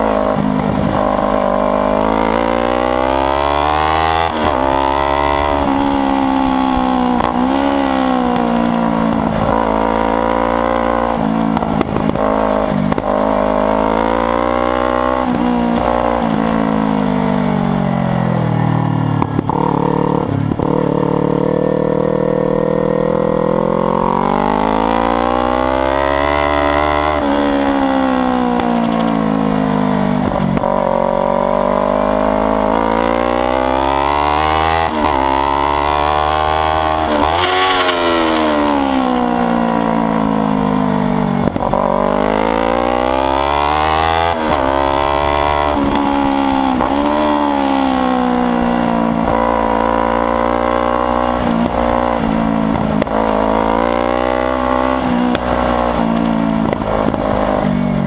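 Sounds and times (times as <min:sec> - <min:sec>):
motorcycle engine at full throttle: 0:00.0 - 0:58.0.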